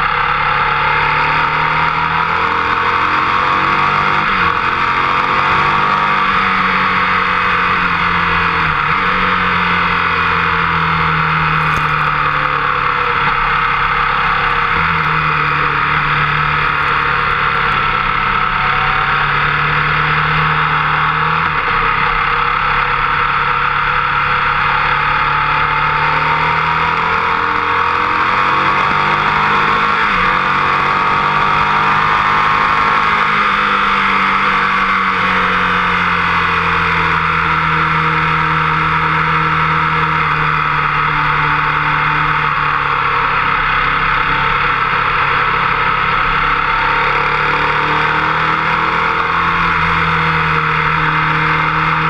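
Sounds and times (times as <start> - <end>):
motorcycle engine running hard: 0.0 - 52.0.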